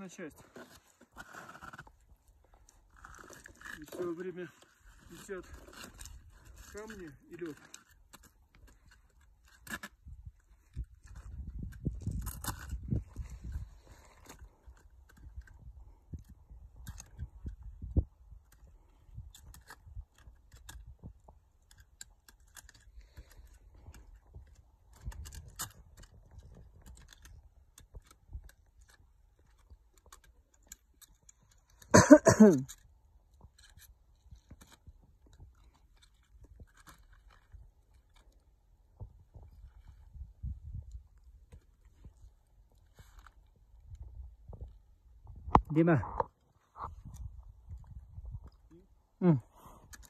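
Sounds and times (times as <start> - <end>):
climbing gear clicks: 0.5 - 31.9, 32.6 - 48.9, 49.6 - 50.0.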